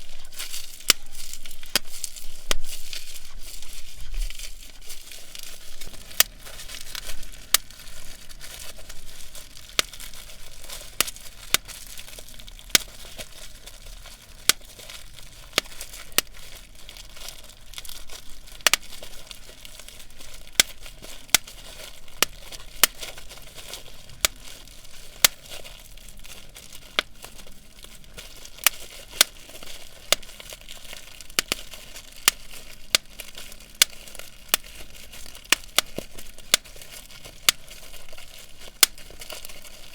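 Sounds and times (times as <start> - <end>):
bubble wrap popping: 0.0 - 39.9
plastic crinkling: 0.0 - 39.9.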